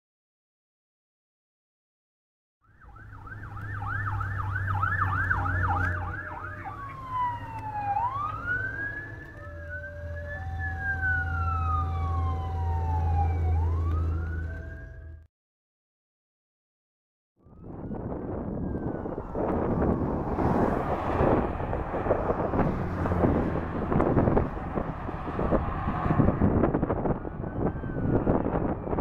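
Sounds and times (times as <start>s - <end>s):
fire truck siren: 2.6s - 15.3s, 17.4s - 29.0s
truck engine hum: 3.0s - 15.2s, 17.5s - 29.0s.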